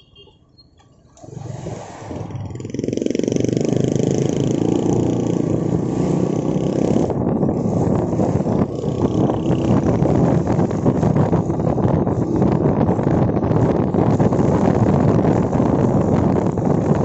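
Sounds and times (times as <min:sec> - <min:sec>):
road noise: 0:00.0 - 0:17.0
motorcycle engine running: 0:02.2 - 0:17.0.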